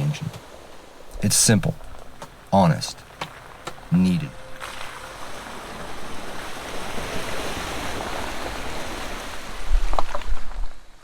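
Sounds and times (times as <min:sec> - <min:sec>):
rushing splashing water: 0:00.0 - 0:11.0.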